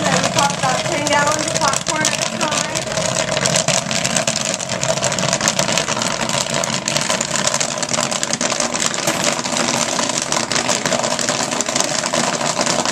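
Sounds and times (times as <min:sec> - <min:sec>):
popcorn machine motor hum: 0:00.0 - 0:12.9
popcorn pattering into steel bin: 0:00.0 - 0:12.9.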